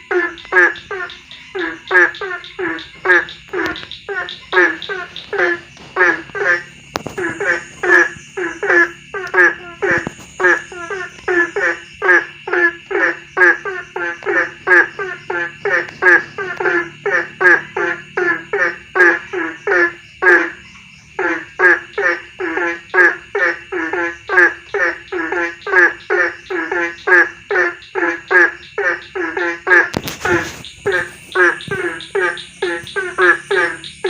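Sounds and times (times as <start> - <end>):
frog croaking: 0.0 - 34.0.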